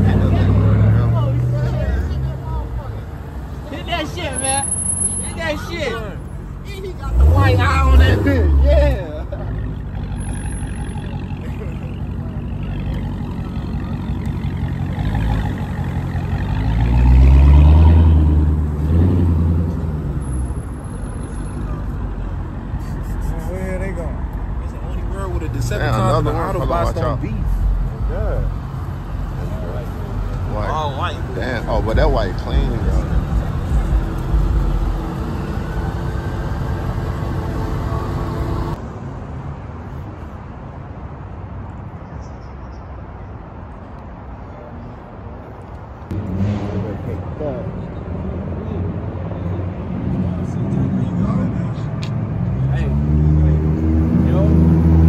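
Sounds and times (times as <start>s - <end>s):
car engine: 0.0s - 39.1s, 45.6s - 55.0s
road noise: 0.0s - 55.0s.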